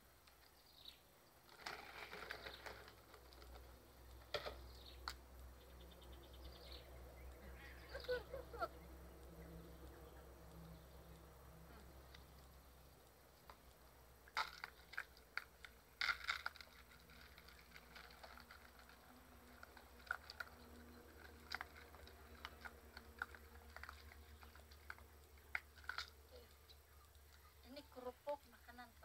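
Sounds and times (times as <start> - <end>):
puppies crunching crackers: 1.4 - 6.3, 7.0 - 28.6.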